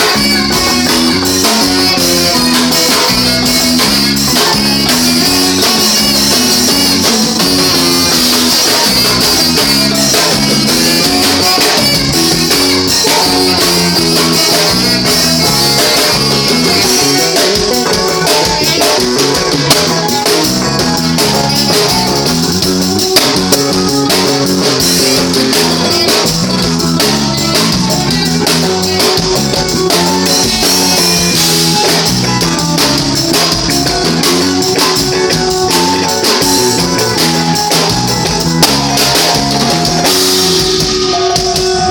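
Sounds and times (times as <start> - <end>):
band playing: 0.0 - 41.9
guitar: 0.0 - 41.9
steady drum-kit beat: 0.0 - 41.9.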